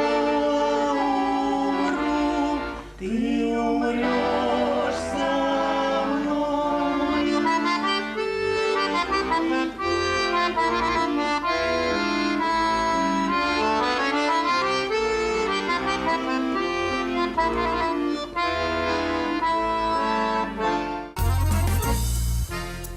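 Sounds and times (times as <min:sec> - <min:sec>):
accordion playing folk tune: 0:00.0 - 0:22.9.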